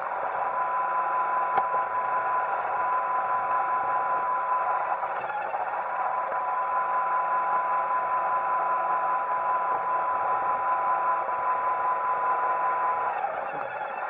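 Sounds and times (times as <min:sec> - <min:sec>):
steady whine: 0:00.0 - 0:14.0.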